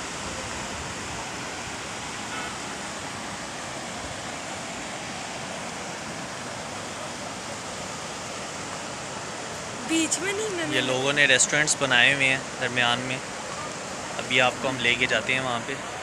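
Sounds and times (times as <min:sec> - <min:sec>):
stream rushing over rapids: 0:00.0 - 0:16.0.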